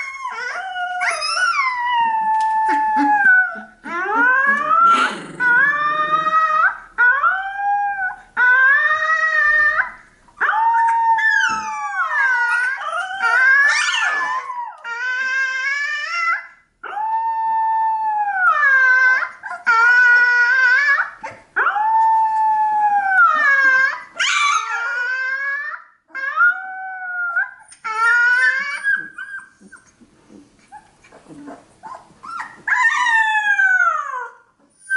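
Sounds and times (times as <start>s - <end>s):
puppy howling: 0.0s - 29.8s, 31.4s - 34.9s.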